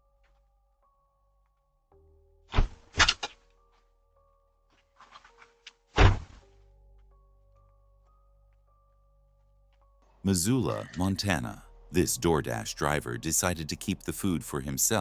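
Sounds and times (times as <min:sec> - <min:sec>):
faint music drone: 0:00.0 - 0:15.0.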